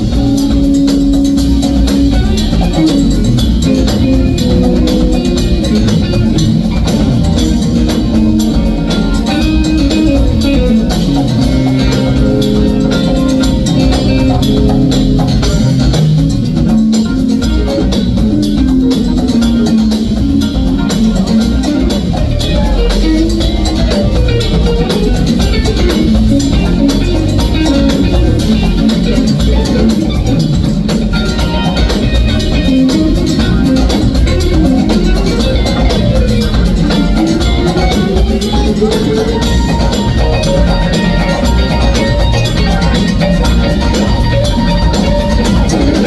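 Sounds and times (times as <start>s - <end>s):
band playing latin groove: 0.0s - 46.0s
busy drum kit: 0.0s - 46.0s.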